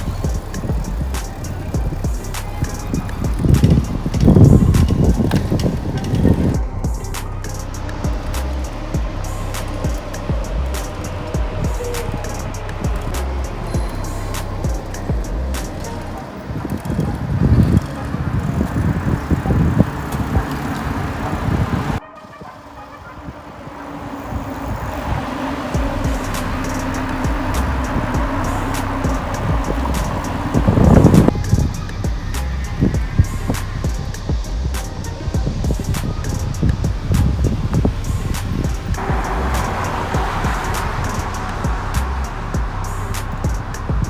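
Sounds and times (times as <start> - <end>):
steady hum: 0.0 - 17.5, 23.8 - 44.0
bicycle clicks and rattles: 0.0 - 22.0, 23.7 - 44.0
road traffic rumble: 0.0 - 44.0
wind buffeting microphone: 0.0 - 44.0.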